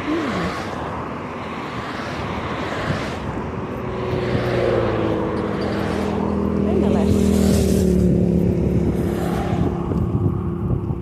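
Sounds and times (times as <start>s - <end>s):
road traffic rushing past: 0.0s - 11.0s
vehicle engine hum: 0.0s - 11.0s.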